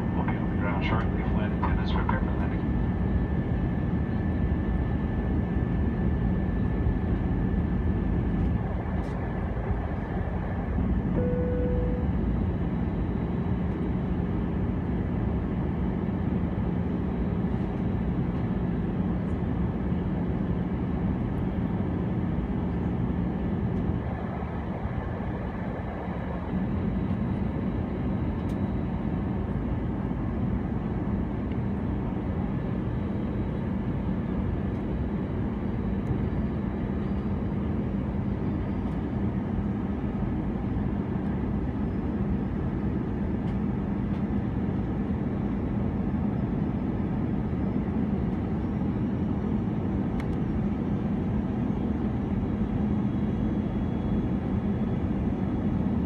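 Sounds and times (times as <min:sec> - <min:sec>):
airliner cabin engine drone: 0:00.0 - 0:56.0
constant low hum: 0:00.0 - 0:56.0.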